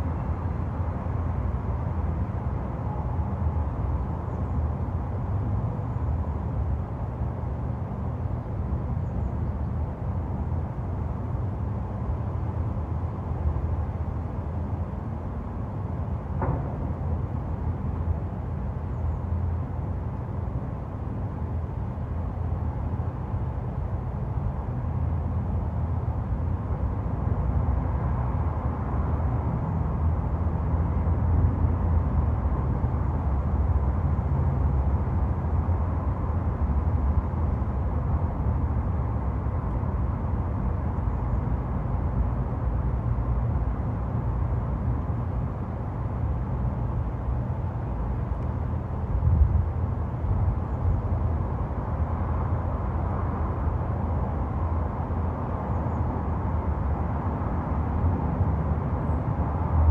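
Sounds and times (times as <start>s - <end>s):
low rumble of road traffic: 0.0s - 59.9s.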